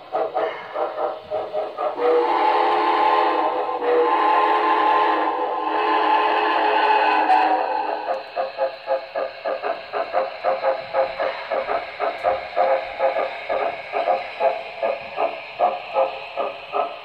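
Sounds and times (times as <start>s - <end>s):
model steam locomotive chuffing: 0.0s - 17.0s
steady hiss: 0.0s - 17.0s.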